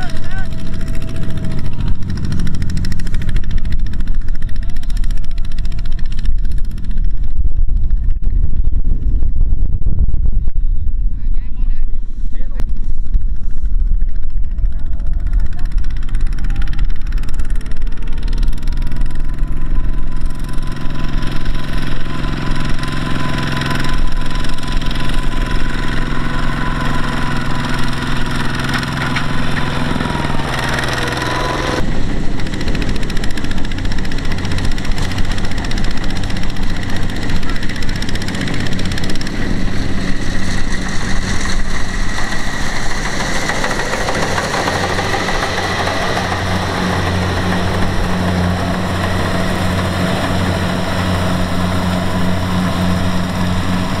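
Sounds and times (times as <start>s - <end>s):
diesel engine knocking chug: 0.0s - 7.3s, 14.3s - 54.0s.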